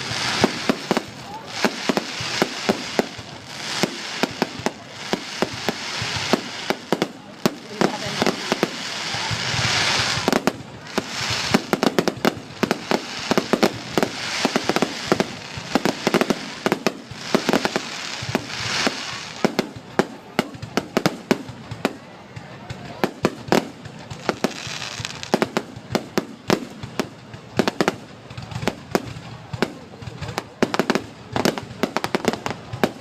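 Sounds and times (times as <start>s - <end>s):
crackling hiss: 0.0s - 22.0s, 22.7s - 33.0s
fireworks bangs and cracks: 0.0s - 33.0s.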